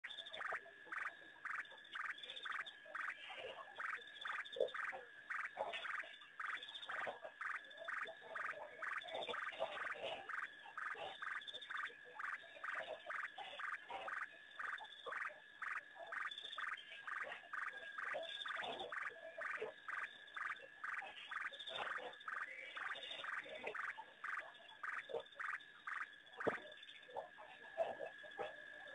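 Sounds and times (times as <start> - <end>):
chorus of frogs calling: 0.0 - 28.9.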